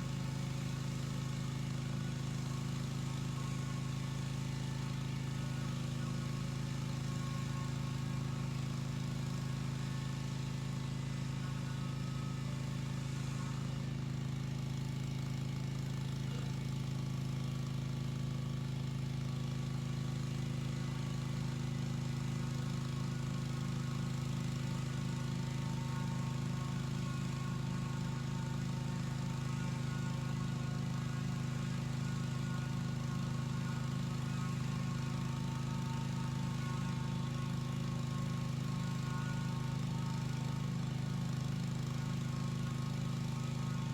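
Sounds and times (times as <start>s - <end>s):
pressure washer engine running: 0.0s - 43.9s.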